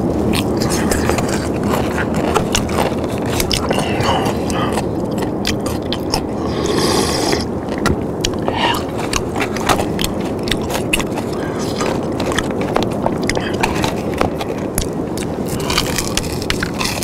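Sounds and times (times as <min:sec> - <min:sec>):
chewing crunchy food: 0:00.0 - 0:17.0
low background noise: 0:00.0 - 0:17.0.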